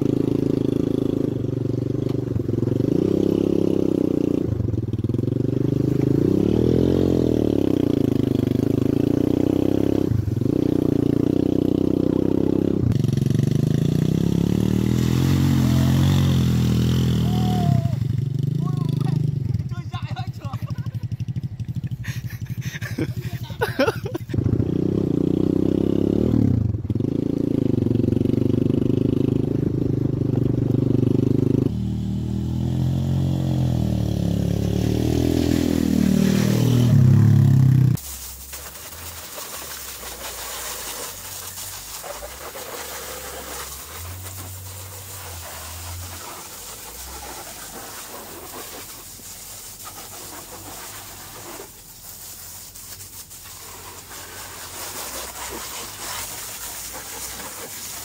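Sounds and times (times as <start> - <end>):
quad bike engine revving: 0.0 - 38.2, 38.8 - 52.2
garden hose spraying water: 0.4 - 25.8, 31.8 - 58.0.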